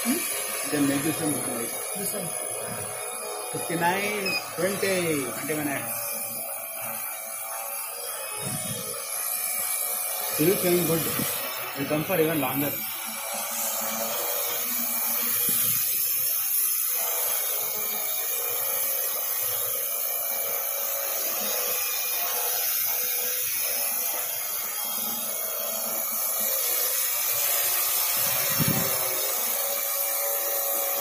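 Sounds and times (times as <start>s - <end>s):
quadcopter propellers whirring: 0.0s - 31.0s.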